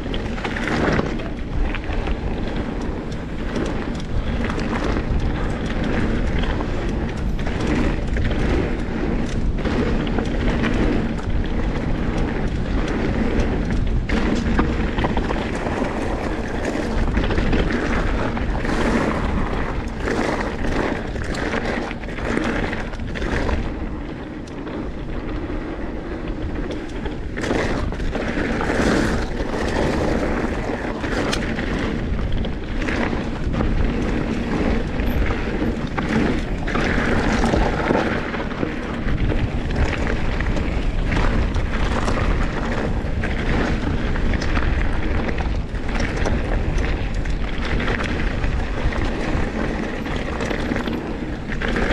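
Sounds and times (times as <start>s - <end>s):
bike knocks and rattles: 0.0s - 51.9s
wind rumble on microphone: 0.0s - 51.9s.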